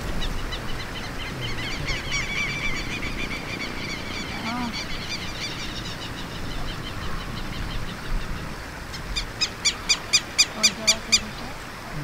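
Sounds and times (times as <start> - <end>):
birds chattering and calling: 0.0 - 12.0.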